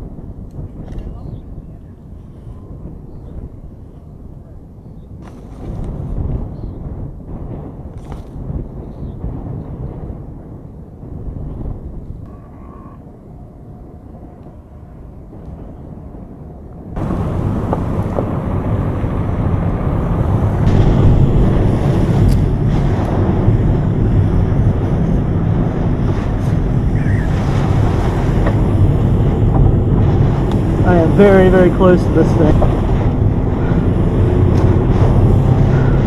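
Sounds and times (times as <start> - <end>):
strong wind buffeting vehicle: 0.0 - 36.0.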